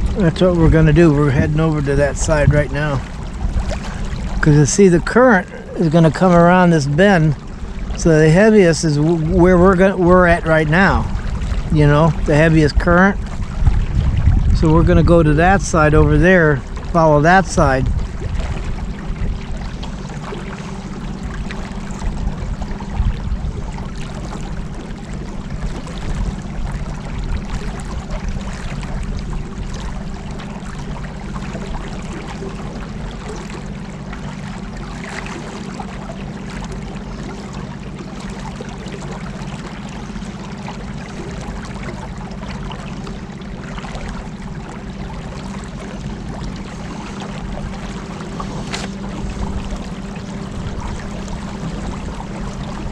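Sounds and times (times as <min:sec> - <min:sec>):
boat engine humming: 0:00.0 - 0:52.9
water rushing past hull: 0:00.0 - 0:52.9.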